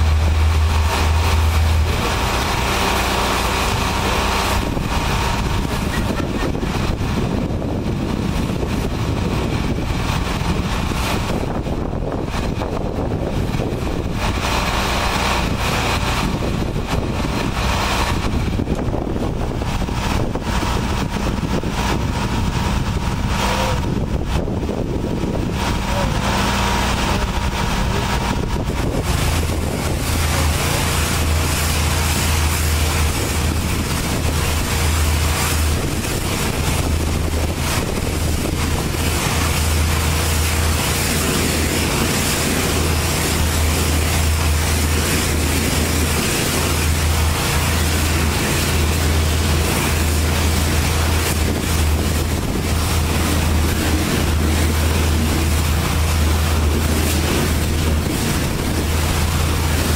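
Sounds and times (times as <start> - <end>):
deep hum: 0.0 - 59.9
truck wash machinery: 0.0 - 59.9.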